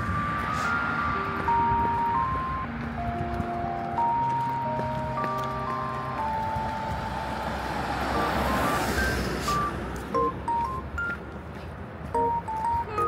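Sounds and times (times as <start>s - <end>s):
simple electronic music: 0.0s - 11.3s, 12.2s - 13.0s
road vehicle passing: 0.0s - 13.0s.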